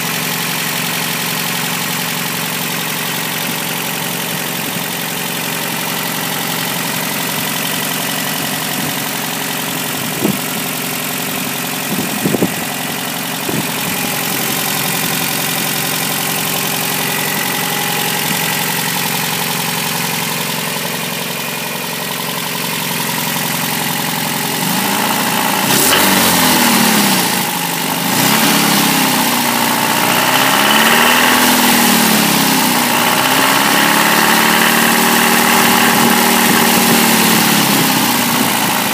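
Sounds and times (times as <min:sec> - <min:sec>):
engine idling and revving with knock: 0:00.0 - 0:38.9.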